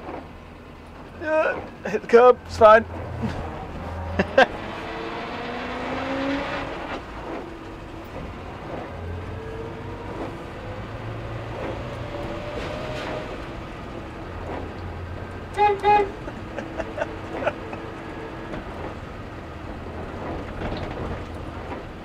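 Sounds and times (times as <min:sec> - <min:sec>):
car engine running: 0:00.0 - 0:12.5, 0:13.2 - 0:22.0.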